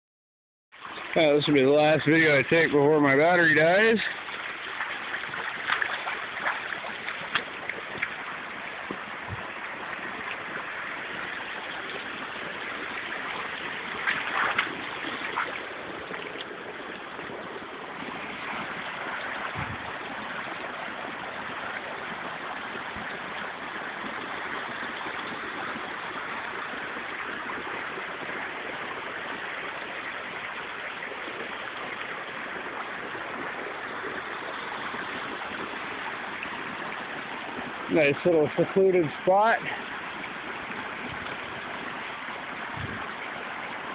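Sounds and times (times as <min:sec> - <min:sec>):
brook running over rocks: 0:00.7 - 0:43.9.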